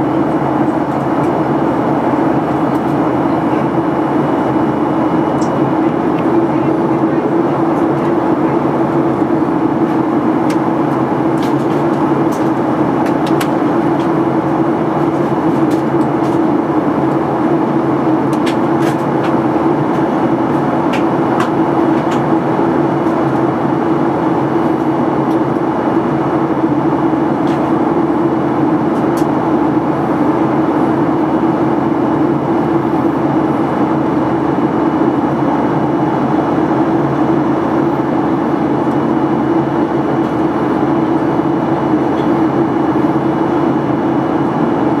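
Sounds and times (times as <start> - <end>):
airplane cabin engine hum: 0.0 - 45.0.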